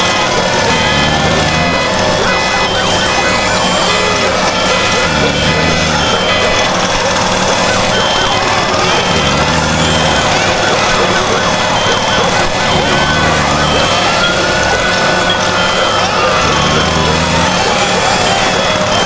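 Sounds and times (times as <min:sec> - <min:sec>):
looping noises: 0:00.0 - 0:19.0
repeating electronic beeps: 0:00.0 - 0:19.0
siren wailing: 0:00.0 - 0:19.0.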